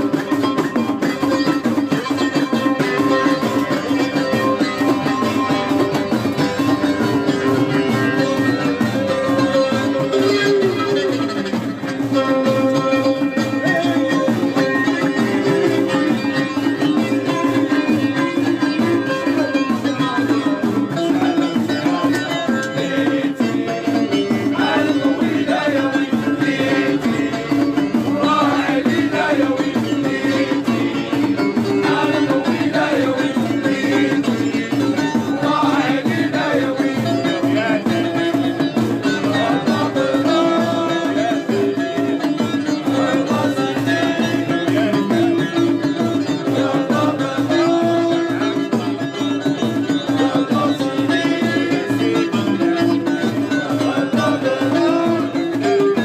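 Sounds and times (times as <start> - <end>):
hand drums: 0.0 - 56.0
plucked string instrument: 0.0 - 56.0.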